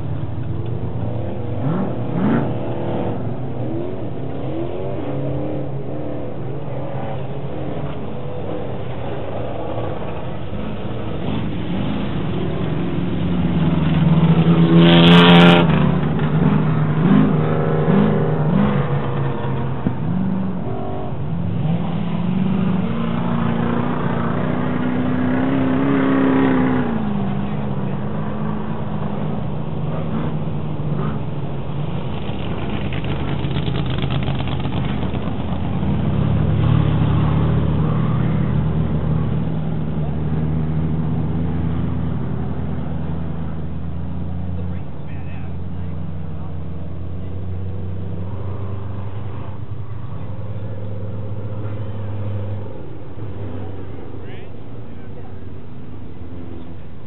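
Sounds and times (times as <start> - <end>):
race truck engines revving: 0.0 - 57.0.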